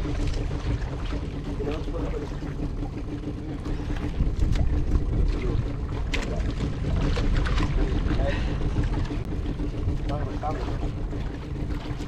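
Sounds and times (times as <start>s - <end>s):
boat engine humming: 0.0s - 12.0s
sea noise: 0.0s - 12.0s
wind: 0.0s - 12.0s.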